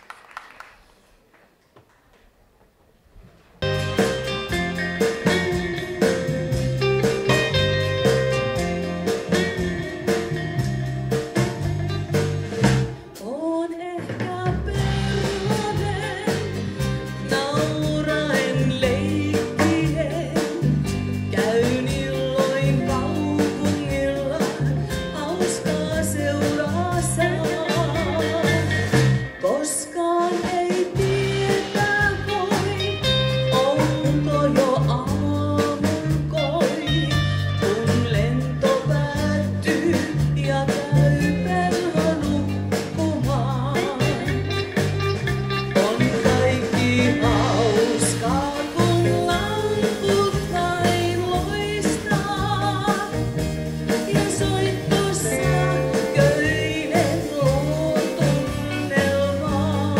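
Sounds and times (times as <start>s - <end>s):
drum kit: 3.4s - 59.9s
bass guitar: 3.6s - 13.1s, 14.5s - 29.5s, 30.8s - 59.9s
electric guitars: 3.6s - 13.1s, 14.6s - 30.1s, 30.7s - 59.9s
woman singing: 3.8s - 11.7s, 13.1s - 59.9s.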